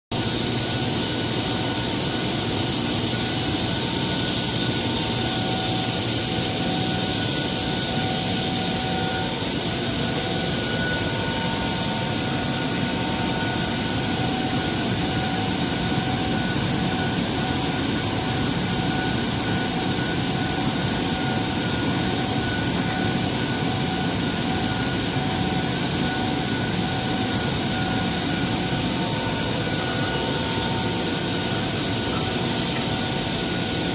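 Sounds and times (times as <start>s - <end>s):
constant high whine: 0.1s - 33.9s
machinery drone: 0.2s - 33.9s.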